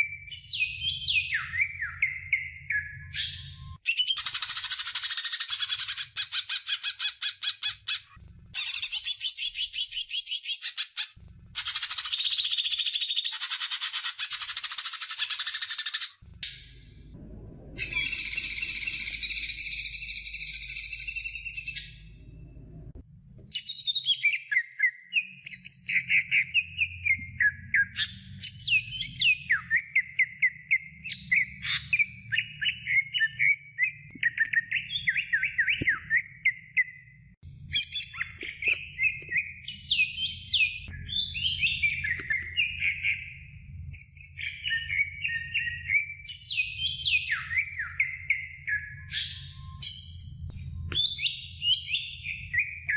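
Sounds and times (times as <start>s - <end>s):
bird twittering song: 0.0s - 17.1s, 17.8s - 22.4s, 23.5s - 52.9s.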